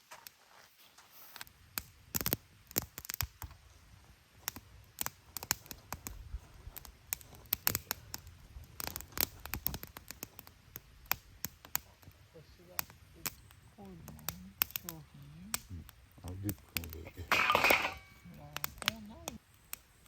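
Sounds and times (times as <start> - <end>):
small wood snapping and scraping: 1.4 - 3.6, 4.4 - 19.9.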